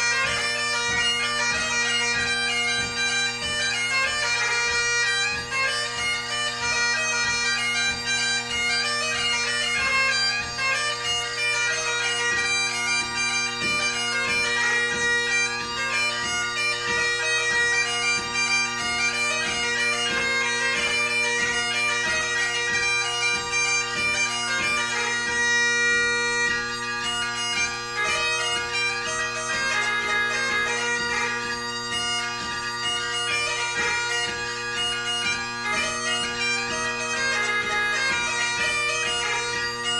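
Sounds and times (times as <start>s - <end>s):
bagpipe playing: 0.0s - 39.9s.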